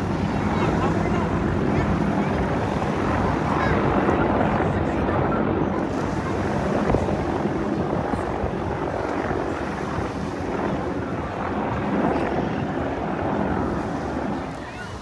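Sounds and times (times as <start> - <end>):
helicopters flying past: 0.0 - 15.0.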